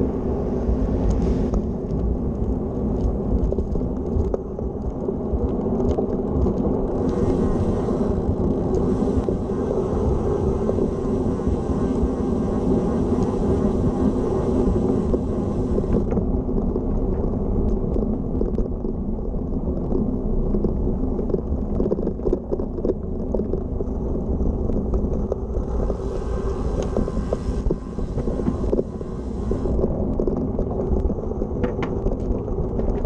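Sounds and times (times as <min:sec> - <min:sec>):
wind on microphone: 0:00.0 - 0:33.0
bike tyres rumbling on boards: 0:00.1 - 0:33.0.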